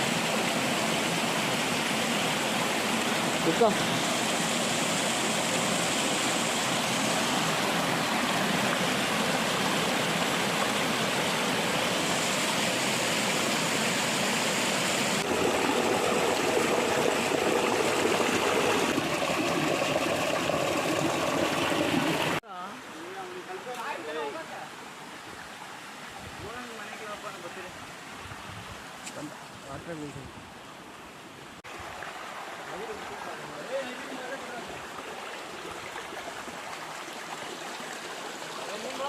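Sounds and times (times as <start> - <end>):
stream water rushing over rocks: 0.0 - 29.6, 31.6 - 39.0.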